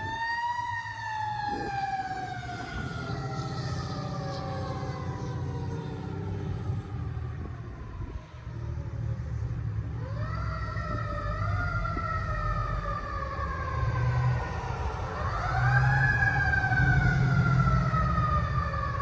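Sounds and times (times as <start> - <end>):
fire engine siren wailing: 0.0 - 19.0
rumble of engines and traffic: 0.0 - 19.0.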